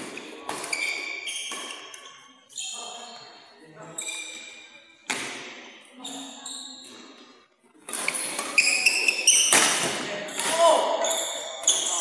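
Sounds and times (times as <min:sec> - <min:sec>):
shoes squeaking on court floor: 0:00.0 - 0:12.0.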